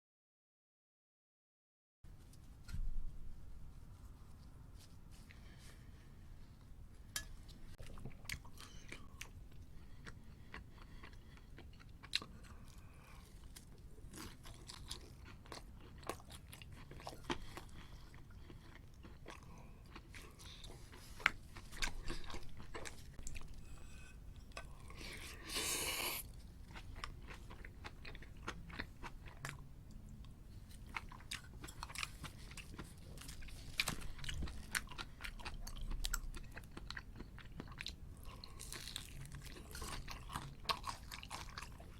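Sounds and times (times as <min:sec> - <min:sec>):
person chewing crispy food: 0:07.8 - 0:41.9.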